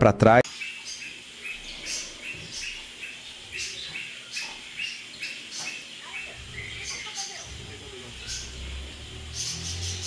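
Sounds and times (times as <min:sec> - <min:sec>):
small birds chirping: 0:00.4 - 0:10.0.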